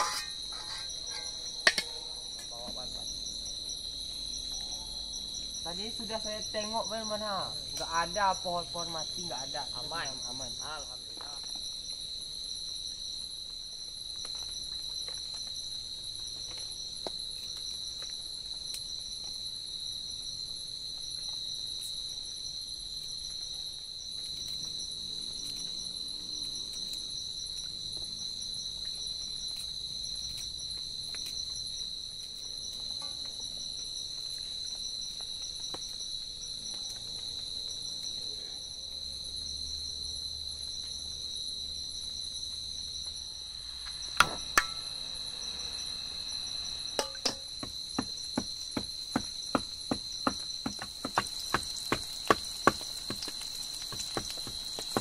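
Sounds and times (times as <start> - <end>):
crickets and insects chirping: 0.0 - 55.0.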